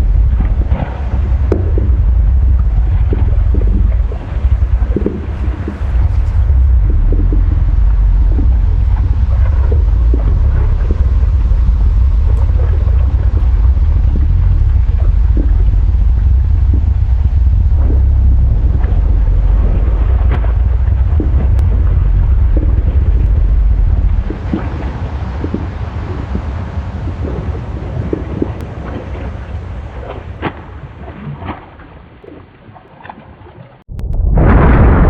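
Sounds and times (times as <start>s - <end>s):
crackles and pops: 0.0s - 29.2s, 33.8s - 35.0s
deep volcanic rumble: 0.0s - 32.4s, 33.8s - 35.0s.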